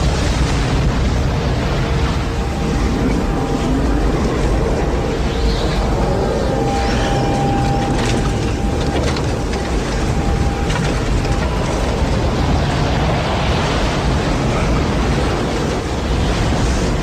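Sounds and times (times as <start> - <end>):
deep rumble: 0.0 - 17.0
rushing wind: 0.0 - 17.0.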